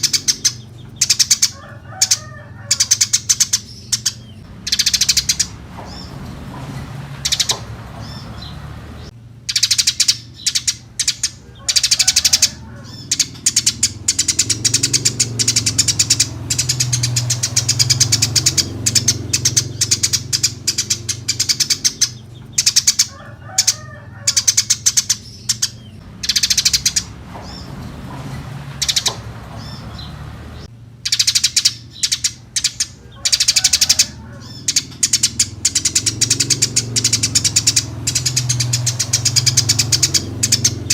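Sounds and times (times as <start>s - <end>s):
steady low hum: 0.0s - 33.4s
sparrows chirping: 0.0s - 40.9s.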